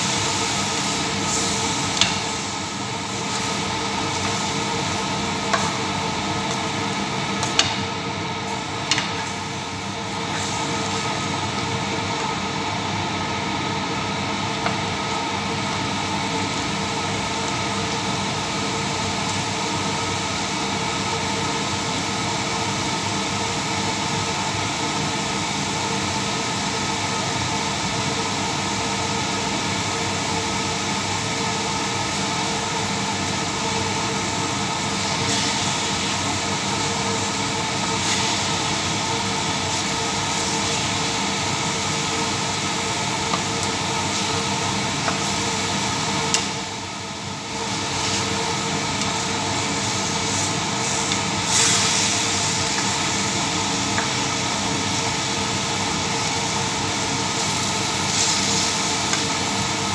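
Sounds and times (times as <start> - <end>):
chicken sizzling in frying pan: 0.0 - 59.9.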